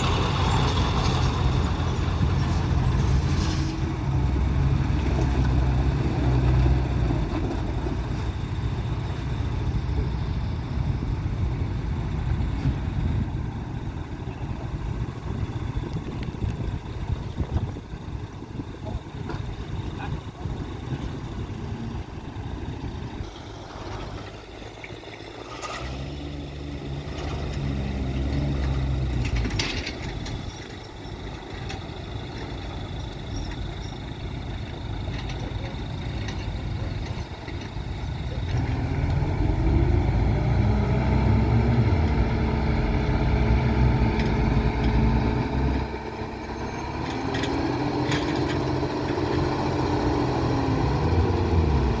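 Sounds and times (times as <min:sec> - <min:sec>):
heavy diesel engines under load: 0:00.0 - 0:52.0.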